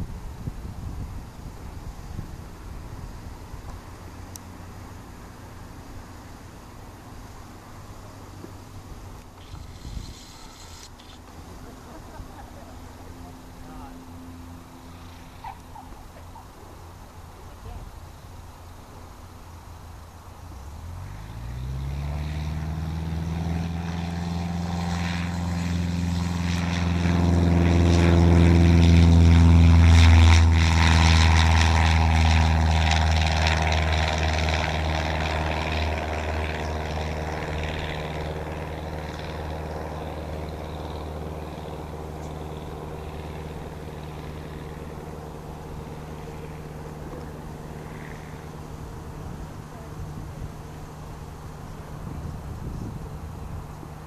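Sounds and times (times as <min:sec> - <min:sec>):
small plane engine and propeller: 0:00.0 - 0:54.0.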